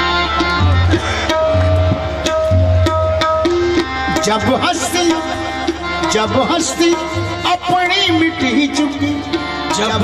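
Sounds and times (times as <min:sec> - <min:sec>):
harmonium holding long note: 0:00.0 - 0:10.0
tabla drum strokes: 0:00.0 - 0:10.0.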